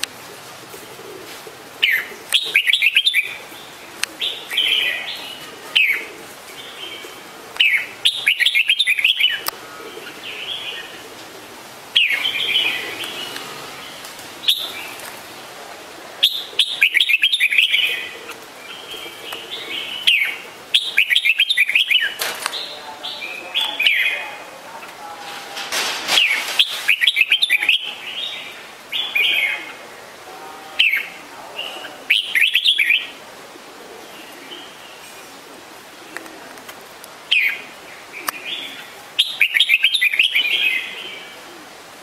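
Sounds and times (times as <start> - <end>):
bulbuls chirping and chattering: 0.0 - 42.0.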